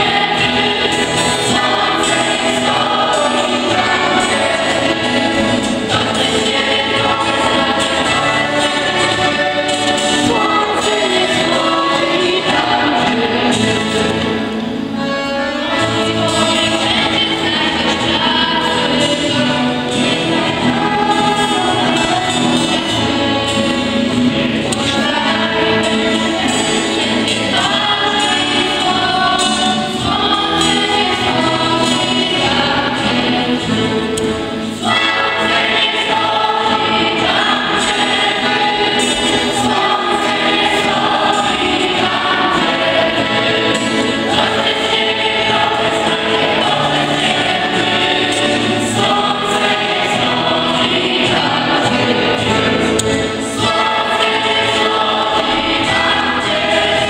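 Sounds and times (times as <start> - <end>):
children singing: 0.0 - 57.0
guitar accompaniment: 0.0 - 57.0.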